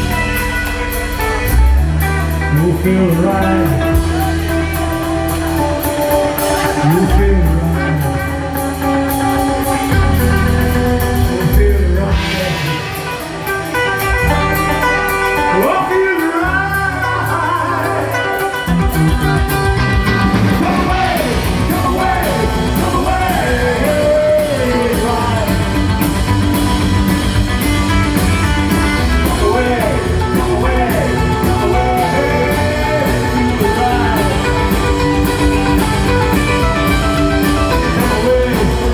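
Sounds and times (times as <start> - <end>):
bass and drums: 0.0 - 38.9
electric guitar with sliding notes: 0.0 - 38.9.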